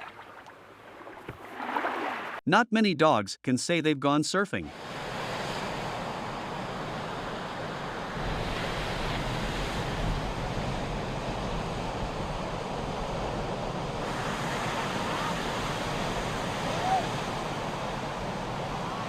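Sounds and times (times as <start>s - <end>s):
ocean surf washing: 0.0s - 2.4s, 4.7s - 19.0s.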